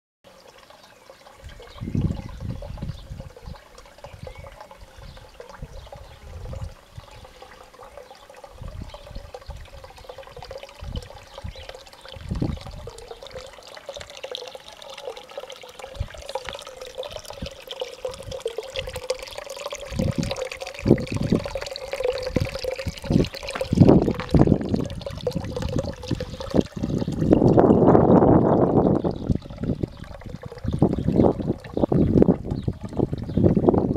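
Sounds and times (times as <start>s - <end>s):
water trickling in a fountain: 0.2s - 33.9s.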